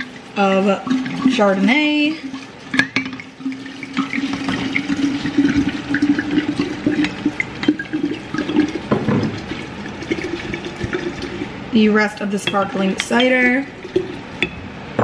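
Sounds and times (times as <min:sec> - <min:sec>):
wine glugging from bottles: 0:00.0 - 0:11.6, 0:12.5 - 0:14.8
liquid splashing: 0:00.0 - 0:14.6.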